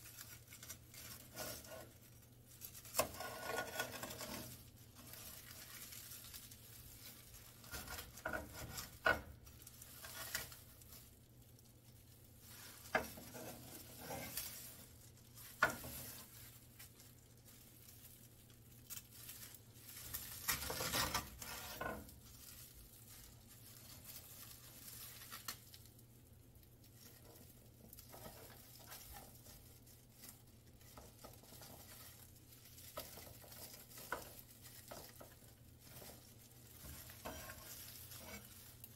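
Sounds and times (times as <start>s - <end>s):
knife crackling through seaweed sheets: 0.0s - 26.0s, 26.8s - 38.9s.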